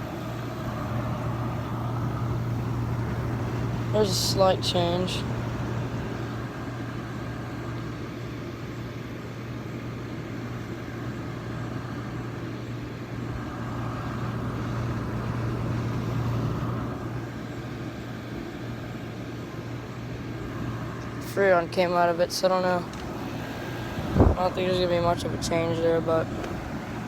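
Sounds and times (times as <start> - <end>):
air conditioner fan air noise: 0.0 - 27.0
compressor hum: 0.0 - 27.0.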